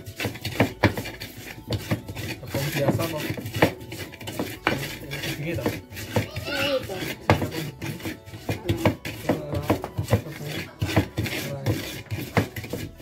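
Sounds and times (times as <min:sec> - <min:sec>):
pestle grinding in mortar: 0:00.0 - 0:13.0.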